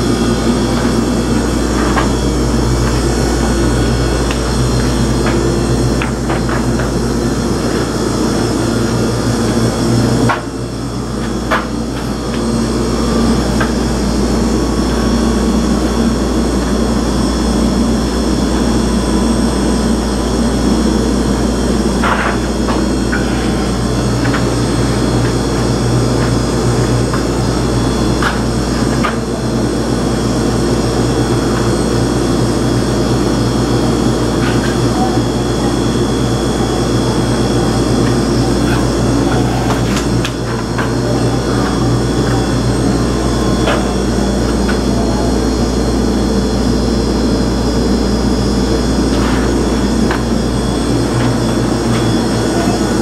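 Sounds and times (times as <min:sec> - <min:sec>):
low mechanical drone: 0:00.0 - 0:53.0.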